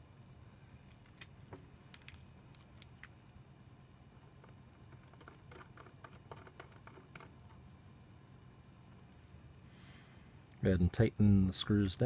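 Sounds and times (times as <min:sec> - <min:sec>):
low steady room hum: 0:00.0 - 0:12.0.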